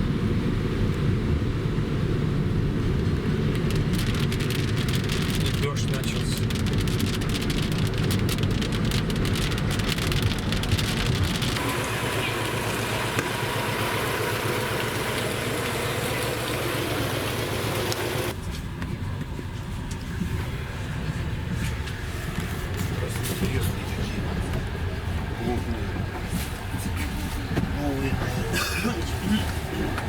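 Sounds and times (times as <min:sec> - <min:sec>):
road and engine rumble: 0:00.0 - 0:30.0
rain pattering on car: 0:00.1 - 0:18.4, 0:19.7 - 0:30.0.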